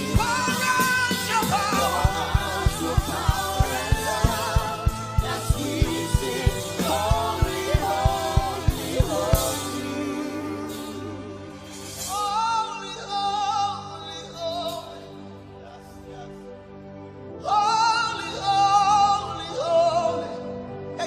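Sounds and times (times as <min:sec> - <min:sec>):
wordless singing with vibrato: 0:00.0 - 0:16.4, 0:17.2 - 0:21.0
instrumental backing: 0:00.0 - 0:17.4.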